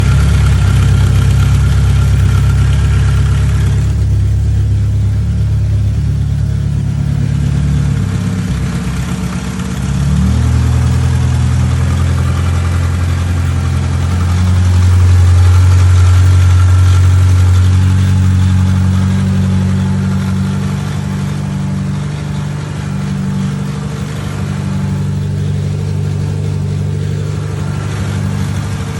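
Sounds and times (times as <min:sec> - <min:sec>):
car engine running: 0:00.0 - 0:28.9.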